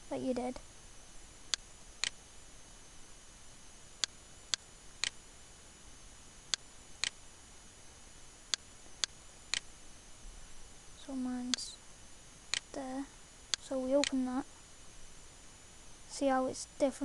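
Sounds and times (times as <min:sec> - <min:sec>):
thin high whine: 0:00.0 - 0:17.0.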